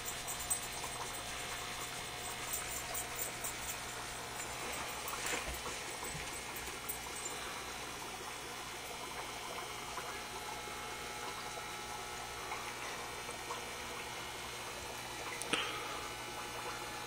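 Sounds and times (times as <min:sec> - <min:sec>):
low hum: 0:00.0 - 0:17.0
water trickling from filter: 0:00.0 - 0:17.0.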